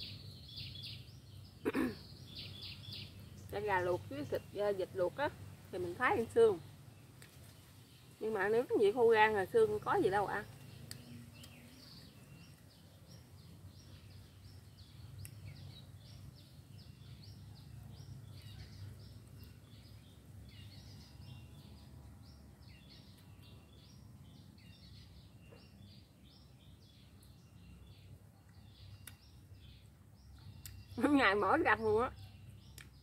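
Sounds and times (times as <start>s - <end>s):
faint birds chirping: 0.0s - 33.0s.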